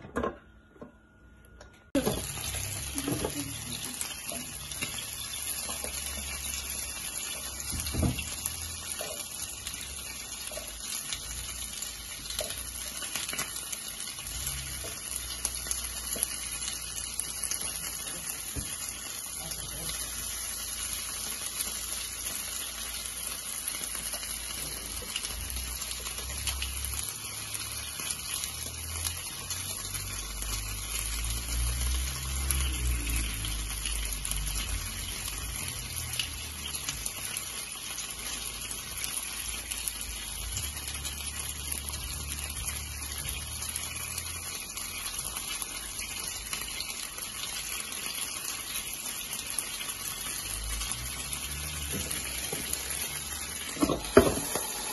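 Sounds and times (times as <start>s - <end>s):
chicken wings sizzling: 2.0s - 54.9s.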